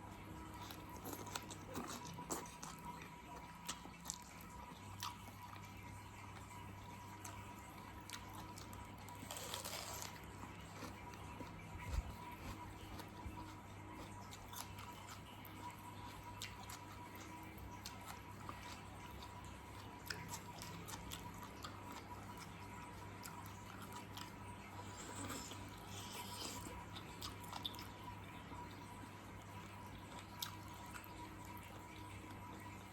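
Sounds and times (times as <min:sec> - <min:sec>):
faint hum: 0:00.0 - 0:32.9
chewing and biting meat: 0:00.4 - 0:28.1.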